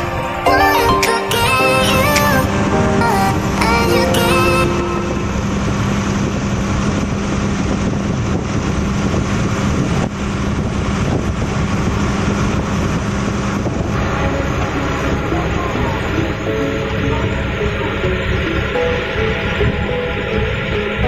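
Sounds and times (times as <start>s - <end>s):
motorboat engine humming: 0.0s - 21.0s
water noise: 0.0s - 21.0s
wind on microphone: 0.0s - 21.0s.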